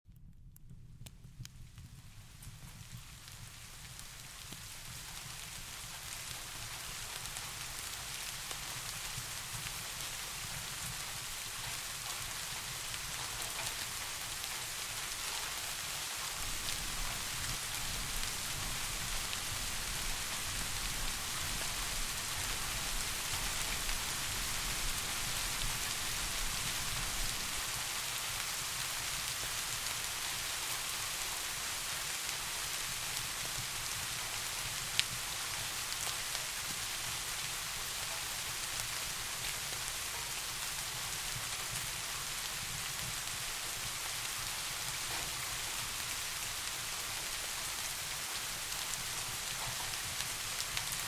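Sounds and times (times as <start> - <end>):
steady rain patter: 0.3 - 51.0.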